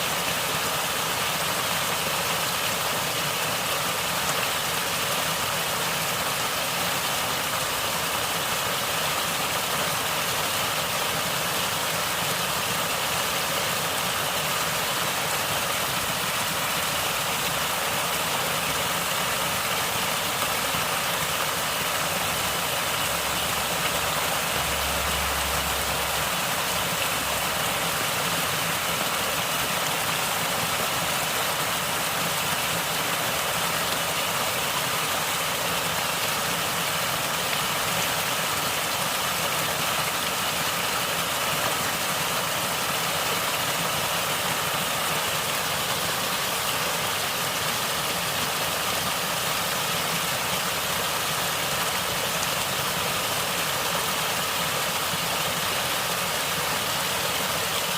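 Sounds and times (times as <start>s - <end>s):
water flowing and gurgling: 0.1s - 57.9s.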